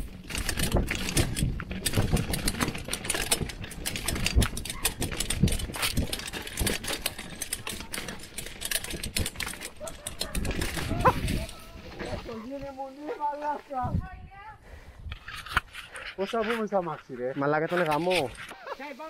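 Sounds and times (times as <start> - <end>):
mountain bike rattling over rocks: 0.0 - 13.6, 15.2 - 18.5.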